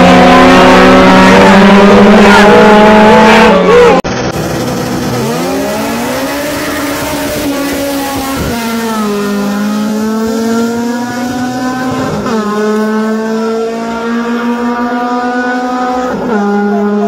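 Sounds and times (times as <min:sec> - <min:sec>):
racing car engines accelerating: 0:00.0 - 0:17.0.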